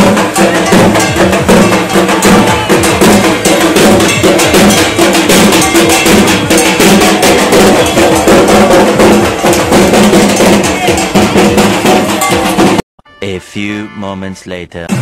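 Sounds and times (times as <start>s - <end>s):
clanging metal percussion: 0.0s - 12.8s
drums: 0.0s - 13.6s, 14.7s - 15.0s.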